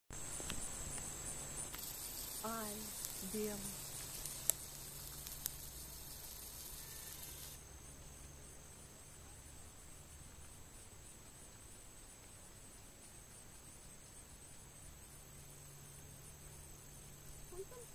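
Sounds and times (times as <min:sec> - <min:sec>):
soft insect chirp: 0:00.1 - 0:17.9
shrill insect hiss: 0:00.2 - 0:17.9.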